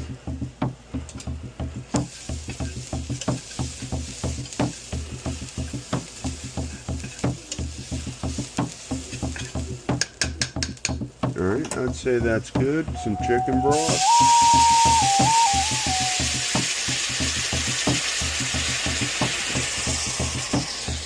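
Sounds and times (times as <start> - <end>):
hand drum beat: 0.0 - 21.0
seasoning sizzling in a pan: 0.0 - 21.0.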